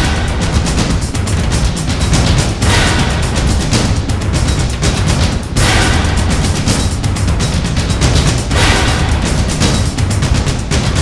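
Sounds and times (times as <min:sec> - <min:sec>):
theme music with heavy bass: 0:00.0 - 0:11.0.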